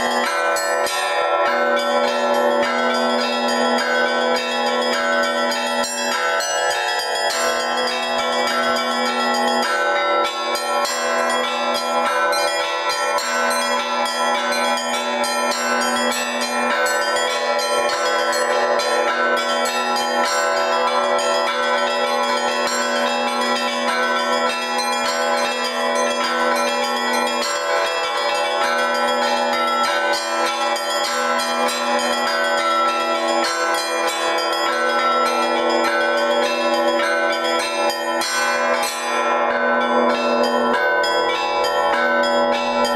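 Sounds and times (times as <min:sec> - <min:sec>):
larger church bells ringing: 0:00.0 - 0:42.9
small church bells rapidly struck: 0:00.0 - 0:42.9.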